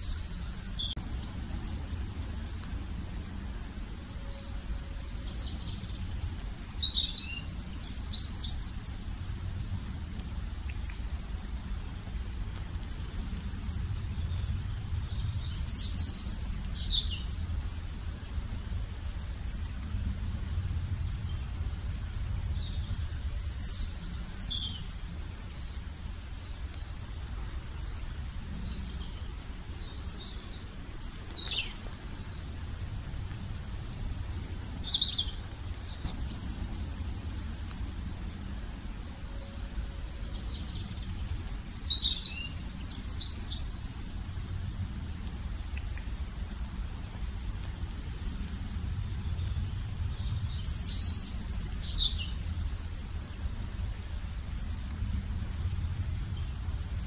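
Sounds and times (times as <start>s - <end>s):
low steady rumble: 0.0s - 57.0s
songbirds chirping: 0.0s - 57.0s.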